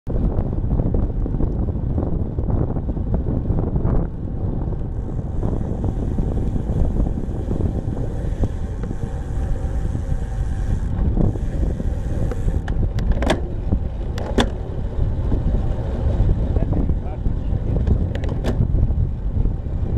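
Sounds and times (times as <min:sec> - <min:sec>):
wind rumble: 0:00.0 - 0:19.9
tyres on asphalt: 0:00.5 - 0:19.9.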